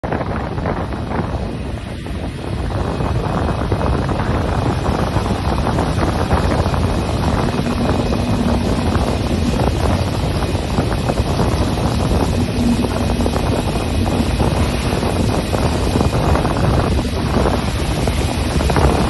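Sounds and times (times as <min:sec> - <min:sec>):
water rushing along boat hull: 0:00.0 - 0:19.0
wind buffeting microphone: 0:00.0 - 0:19.0
low rumble: 0:03.6 - 0:19.0.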